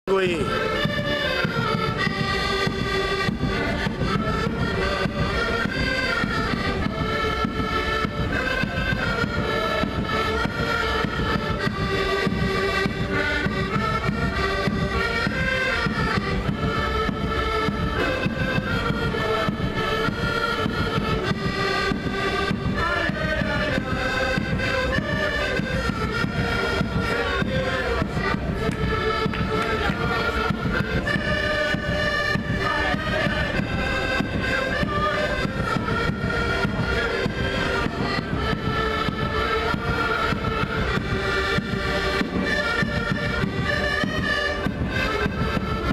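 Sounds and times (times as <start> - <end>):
folk melody on sustained instruments: 0.1 - 45.9.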